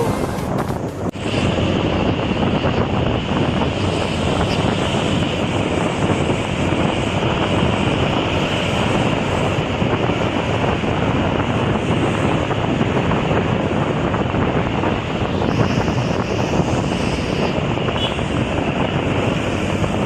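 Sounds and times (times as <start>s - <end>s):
highway traffic noise: 0.0s - 20.0s
wind buffeting microphone: 0.0s - 20.0s.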